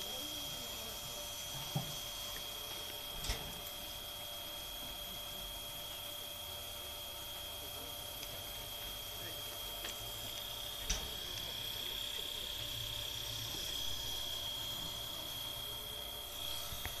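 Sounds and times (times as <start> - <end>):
high-pitched steam whine: 0.0 - 7.5, 8.4 - 17.0.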